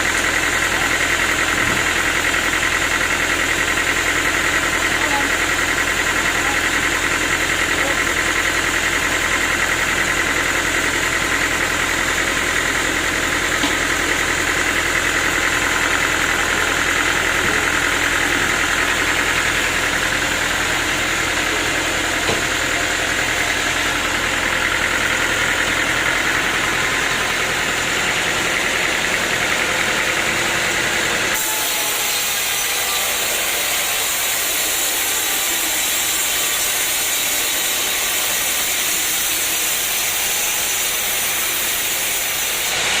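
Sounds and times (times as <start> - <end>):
sawmill machinery drone: 0.0 - 43.0.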